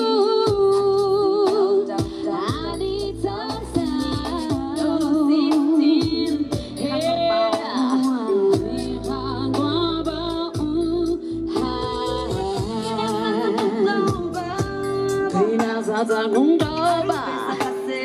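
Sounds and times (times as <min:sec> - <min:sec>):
backing music with steady beat: 0:00.0 - 0:18.0
woman singing into a microphone: 0:00.0 - 0:18.0.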